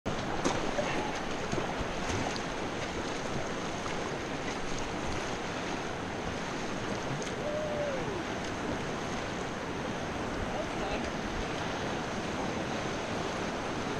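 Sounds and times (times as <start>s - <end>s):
whitewater rushing in rapids: 0.1s - 13.9s.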